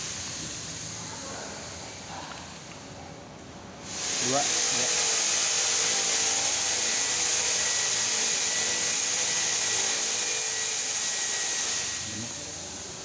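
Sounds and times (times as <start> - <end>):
laser cutter hiss and whine: 0.0 - 2.1, 3.8 - 13.0.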